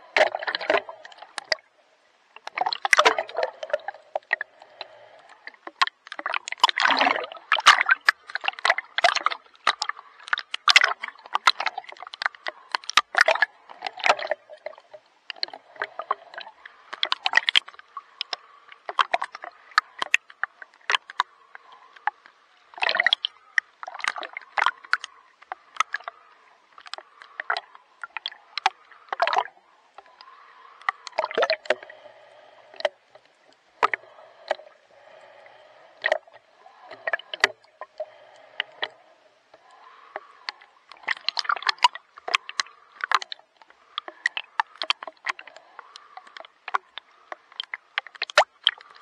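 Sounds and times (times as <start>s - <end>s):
sea water splashing: 0.0s - 49.0s.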